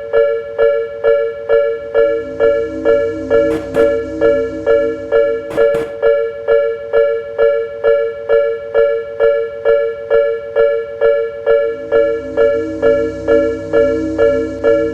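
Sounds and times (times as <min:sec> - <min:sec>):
level crossing warning bell: 0:00.0 - 0:14.4.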